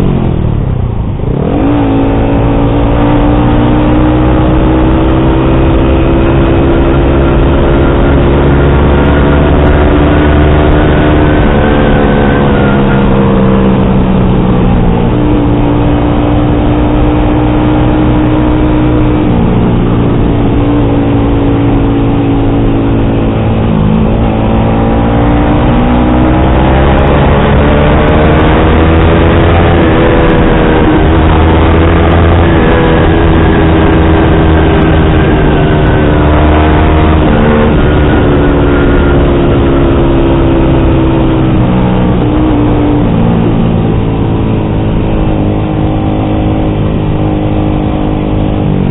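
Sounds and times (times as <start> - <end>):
motorcycle engine revving through gears: 0.0 - 48.9.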